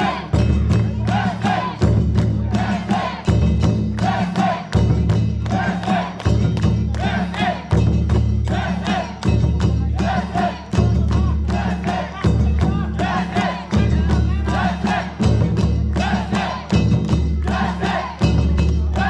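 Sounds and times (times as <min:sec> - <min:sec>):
men chanting and shouting: 0:00.0 - 0:19.0
quick percussion strikes: 0:00.0 - 0:19.0.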